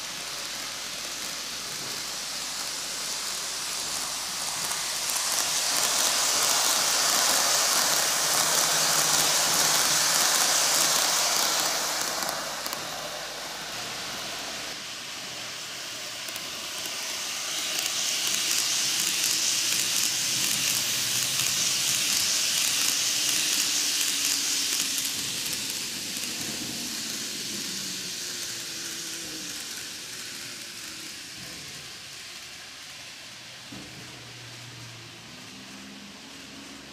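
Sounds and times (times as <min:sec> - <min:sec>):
model train wheels rattling: 0:00.0 - 0:14.8, 0:15.4 - 0:32.8.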